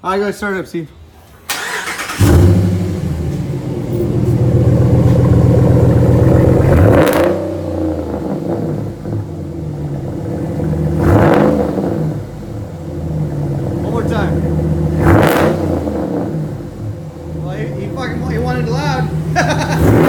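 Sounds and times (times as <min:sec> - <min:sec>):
engine idling and revving: 0:01.5 - 0:20.0.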